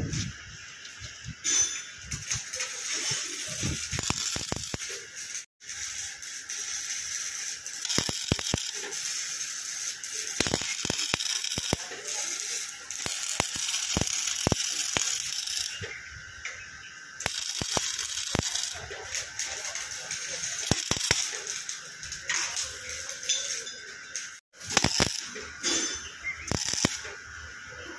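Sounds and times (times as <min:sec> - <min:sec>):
arc welding crackling hiss: 0:00.0 - 0:27.9
sharp welding pops: 0:00.8 - 0:27.3.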